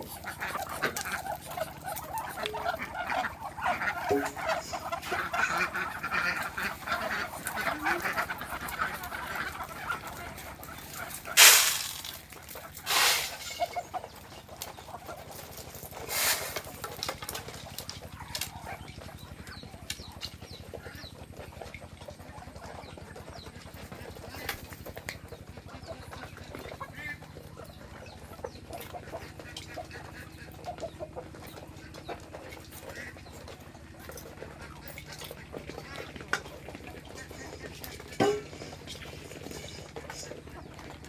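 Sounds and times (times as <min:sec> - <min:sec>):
chickens clucking softly: 0:00.0 - 0:11.4, 0:12.4 - 0:41.0.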